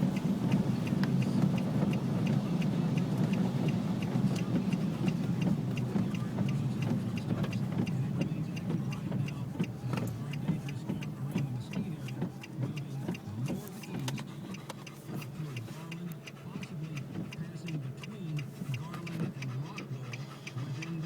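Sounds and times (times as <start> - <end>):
car engine and road hum: 0.0 - 21.0
faint regular ticking: 0.0 - 21.0.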